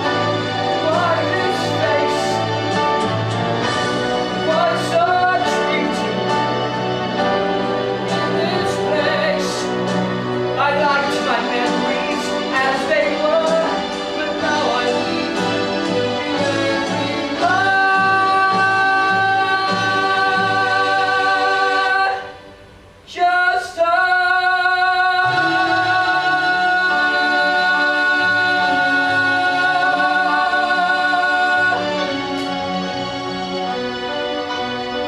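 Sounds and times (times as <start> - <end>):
man singing: 0.0 - 3.0, 4.1 - 22.4, 23.1 - 32.6
upright piano accompaniment: 0.0 - 35.0.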